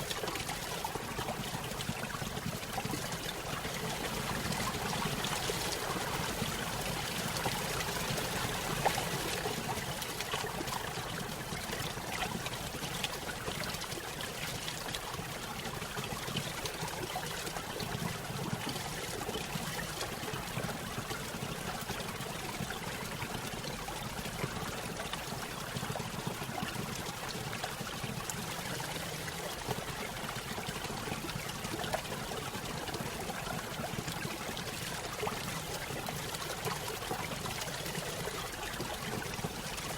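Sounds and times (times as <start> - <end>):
stream trickling over waterfall: 0.0 - 39.9.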